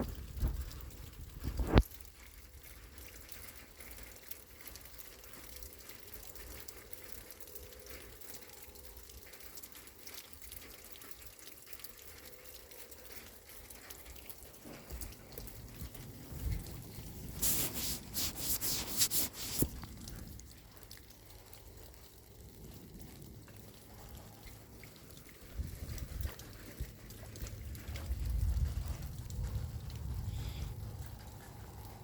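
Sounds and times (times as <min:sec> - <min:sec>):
drips of water drops: 0:00.0 - 0:18.1, 0:19.6 - 0:32.0
steady rain falling: 0:00.0 - 0:32.0.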